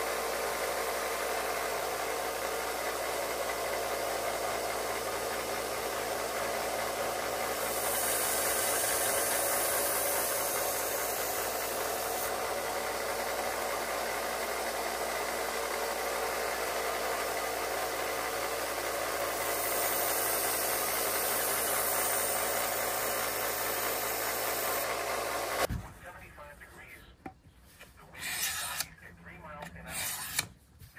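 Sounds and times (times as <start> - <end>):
power tool motor hum: 0.0 - 25.7.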